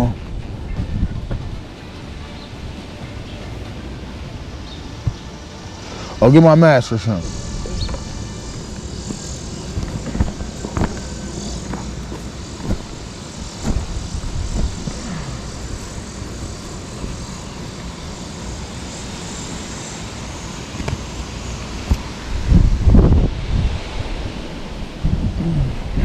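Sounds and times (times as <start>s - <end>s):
lawn mower engine running: 1.5s - 22.4s.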